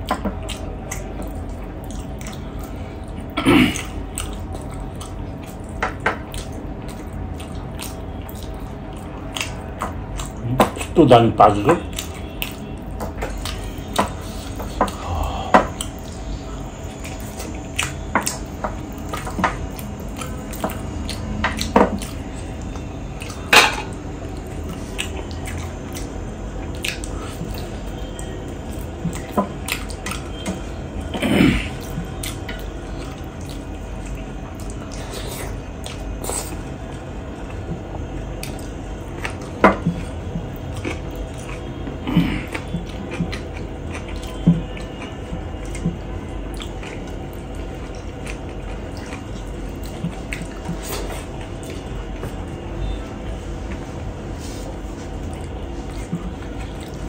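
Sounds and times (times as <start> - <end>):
person chewing food: 0.0 - 11.0, 11.7 - 57.0.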